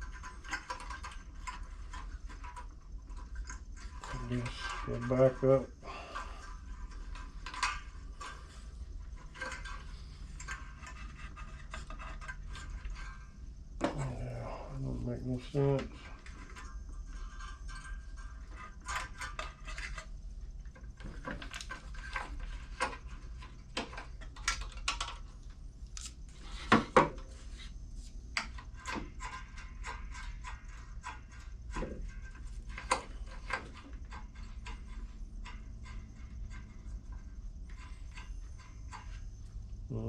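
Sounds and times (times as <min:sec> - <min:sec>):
metal parts and tools clinking: 0:00.0 - 0:27.6, 0:28.3 - 0:40.0.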